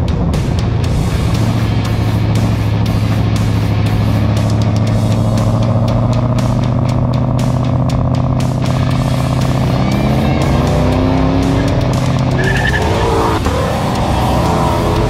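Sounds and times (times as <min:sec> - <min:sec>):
background music: 0:00.0 - 0:15.0
car engines running: 0:00.0 - 0:15.0.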